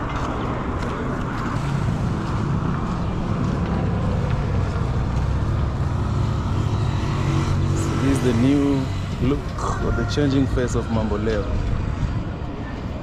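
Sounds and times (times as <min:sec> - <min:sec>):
vehicle engine and road noise: 0:00.0 - 0:13.0
wind buffeting microphone: 0:00.0 - 0:13.0.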